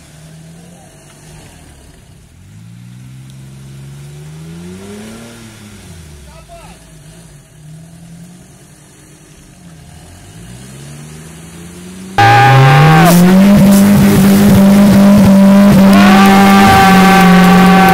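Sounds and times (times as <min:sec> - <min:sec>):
off-road vehicle engine revving hard: 0:00.0 - 0:08.6, 0:09.8 - 0:17.9
faint engine revving: 0:00.0 - 0:17.9
vehicle ploughing through muddy water: 0:00.0 - 0:17.9.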